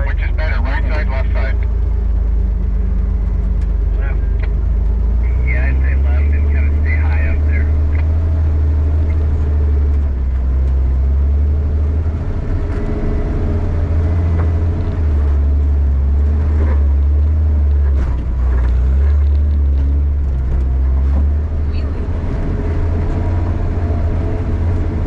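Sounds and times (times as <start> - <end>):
truck engine deep drone: 0.0 - 25.0.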